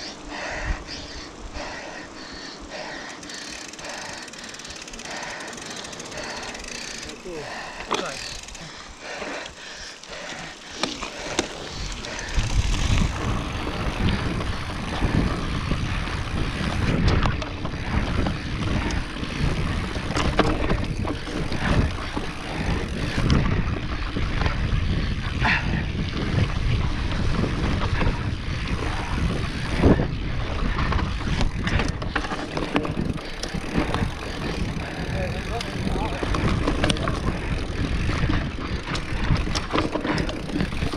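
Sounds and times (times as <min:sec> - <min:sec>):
bike rattling and knocking: 0:02.5 - 0:40.9
wind buffeting microphone: 0:06.1 - 0:40.9.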